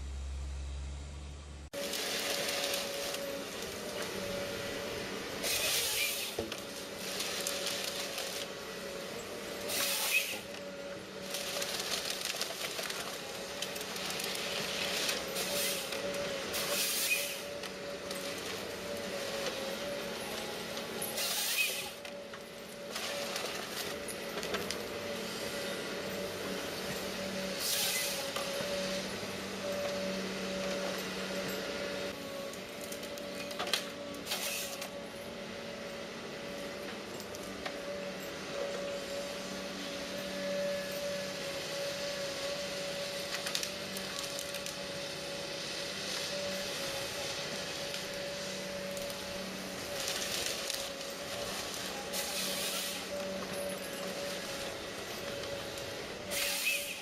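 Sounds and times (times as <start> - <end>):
machinery whining: 0.0 - 57.0.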